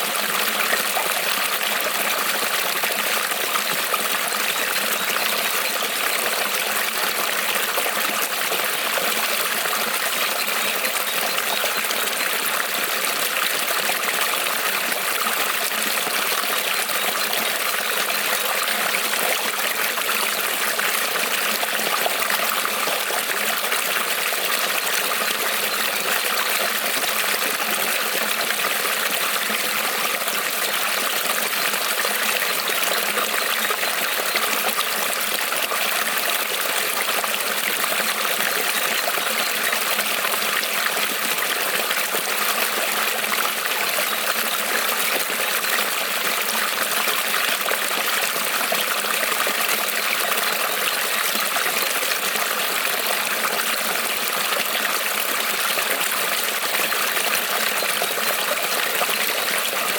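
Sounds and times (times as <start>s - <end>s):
creek water trickling over stones: 0.0s - 59.9s.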